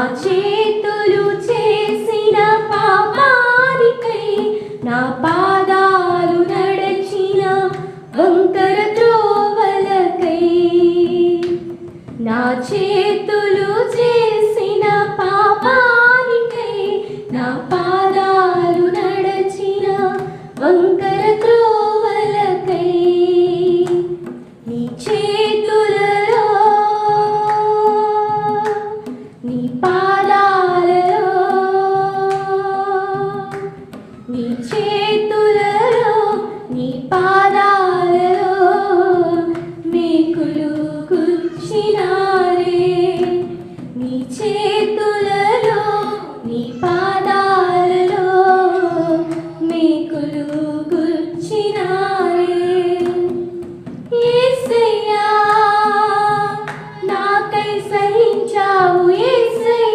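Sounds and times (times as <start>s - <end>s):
women singing a hymn: 0.0s - 59.9s.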